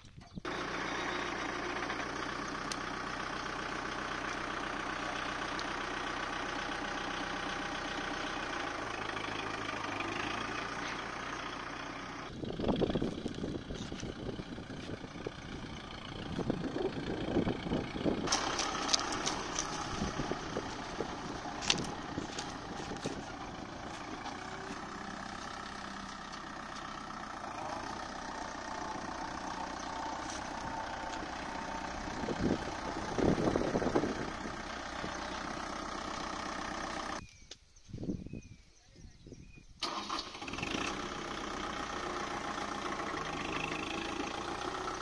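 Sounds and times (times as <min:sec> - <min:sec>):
tractor diesel engine running: 0:00.0 - 0:37.3, 0:39.8 - 0:45.0.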